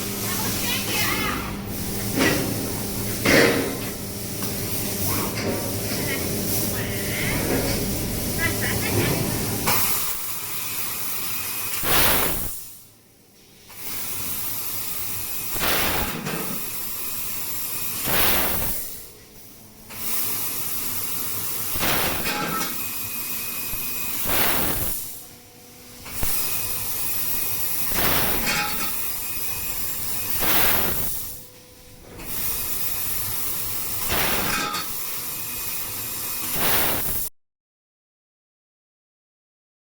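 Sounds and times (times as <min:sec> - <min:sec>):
laser cutter gas jet hissing: 0:00.0 - 0:12.9, 0:13.6 - 0:37.3.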